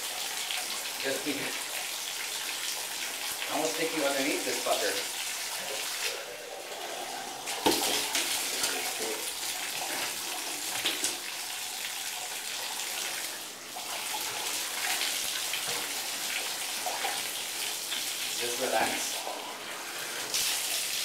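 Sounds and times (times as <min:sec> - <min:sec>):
water running into a bathtub: 0:00.0 - 0:21.0.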